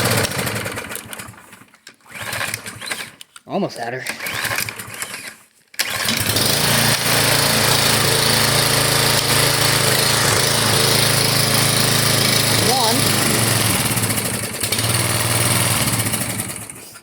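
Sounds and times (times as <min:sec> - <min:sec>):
small gas engine pull-started: 0:00.0 - 0:03.4, 0:04.0 - 0:17.0.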